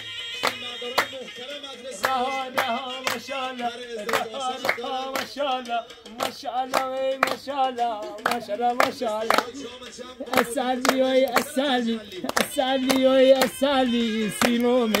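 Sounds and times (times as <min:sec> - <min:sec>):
hands clapping to beat: 0:00.0 - 0:01.4, 0:02.0 - 0:15.0
people singing together: 0:01.8 - 0:15.0.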